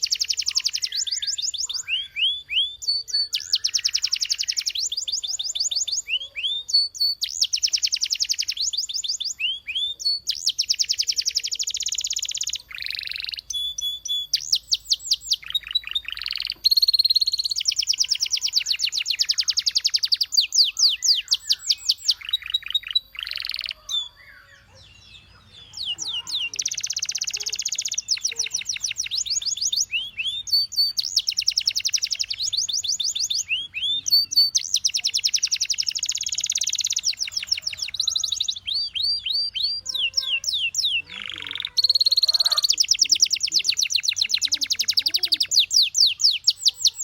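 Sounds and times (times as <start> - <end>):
canary singing: 0.0 - 47.0.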